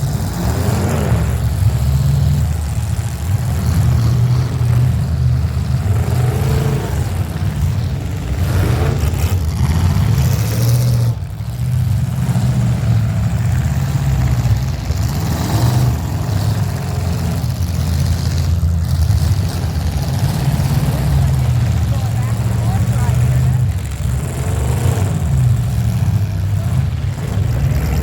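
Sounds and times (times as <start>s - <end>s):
engines droning and revving: 0.0s - 28.0s.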